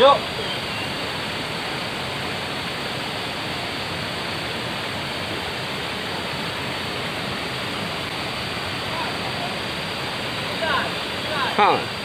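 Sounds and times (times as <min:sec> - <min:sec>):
waterfall rushing into pool: 0:00.0 - 0:12.0.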